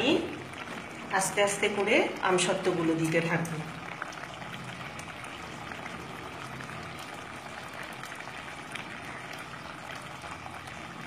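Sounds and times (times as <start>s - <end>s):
chutney bubbling in a pan: 0.0s - 11.0s.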